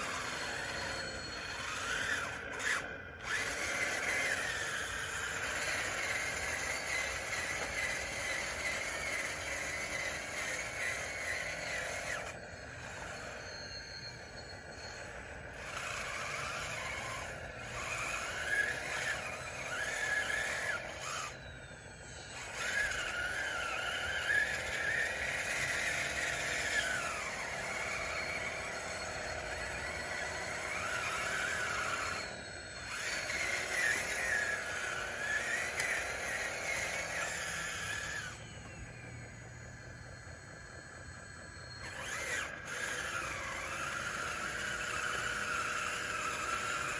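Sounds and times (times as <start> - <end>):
electric motors and gears whining: 0.0 - 46.9.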